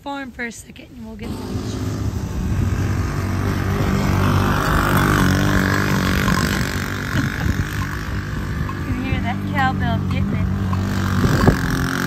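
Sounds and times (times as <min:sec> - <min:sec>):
utility vehicle engine running: 0:01.2 - 0:12.0.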